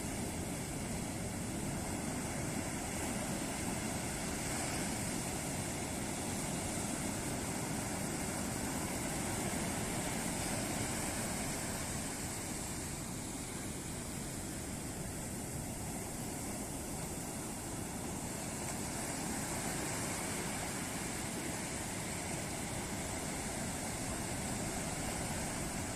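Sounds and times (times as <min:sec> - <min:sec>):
waves breaking on beach: 0:00.0 - 0:25.9.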